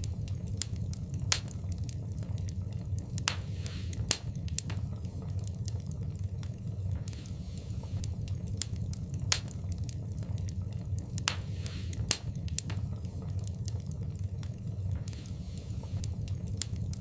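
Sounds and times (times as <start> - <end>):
fire hissing: 0.0 - 17.0
wood fire crackling: 0.0 - 17.0.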